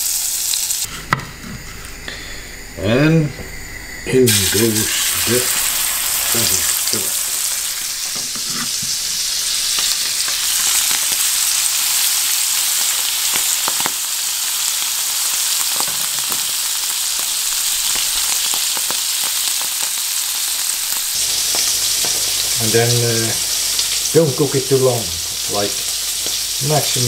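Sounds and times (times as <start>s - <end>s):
meat sizzling in a pan: 0.0s - 0.9s, 4.3s - 27.0s.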